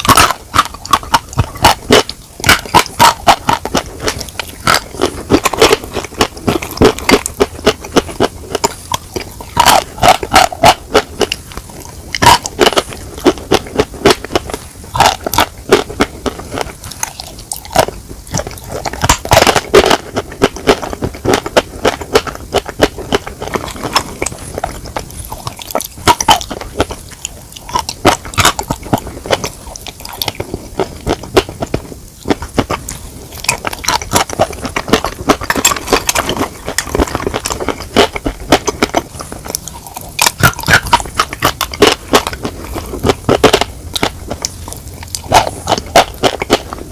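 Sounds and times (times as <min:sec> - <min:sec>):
chewing and crunching chicken: 0:00.0 - 0:46.9.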